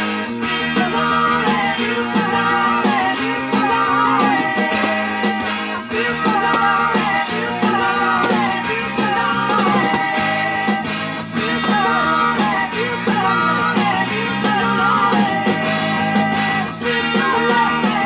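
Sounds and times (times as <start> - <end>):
song with band from vinyl record: 0.0 - 18.0.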